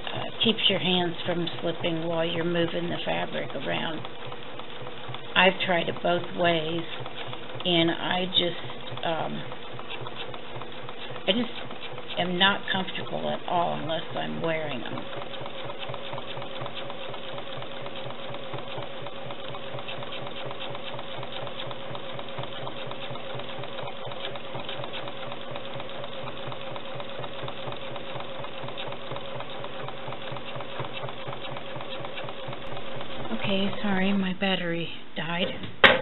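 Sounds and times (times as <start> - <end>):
sewing machine stitching: 0.0 - 34.4.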